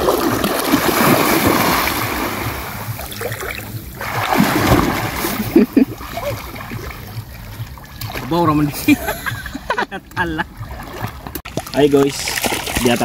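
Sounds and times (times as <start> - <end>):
sea water splashing: 0.0 - 9.2, 10.4 - 13.0
water sloshing: 0.0 - 13.0.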